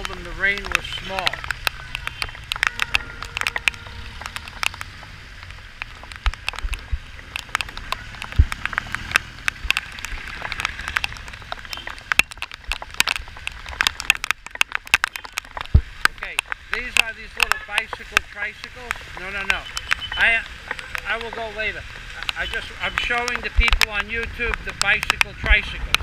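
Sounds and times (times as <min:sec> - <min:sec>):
raindrops ticking on microphone: 0:00.0 - 0:26.0
steady rain: 0:00.0 - 0:26.0
traffic rumble on wet road: 0:00.0 - 0:26.0.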